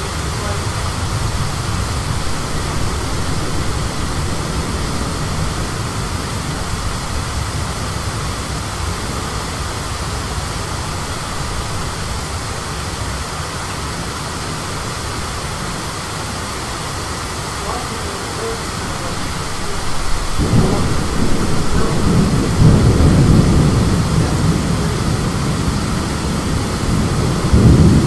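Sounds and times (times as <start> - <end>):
storm wind blowing: 0.0 - 28.0.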